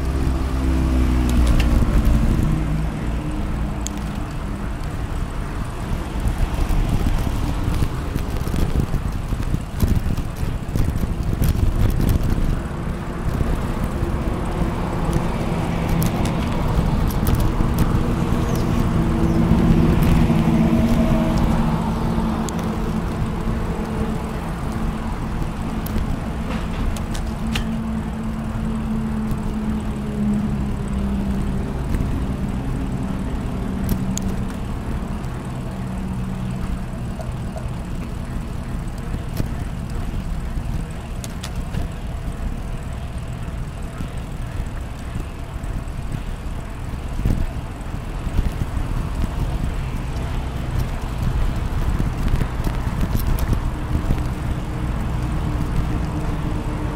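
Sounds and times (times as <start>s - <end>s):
bicycle riding rumble: 0.0s - 56.9s
vehicle engine hum: 0.0s - 56.9s.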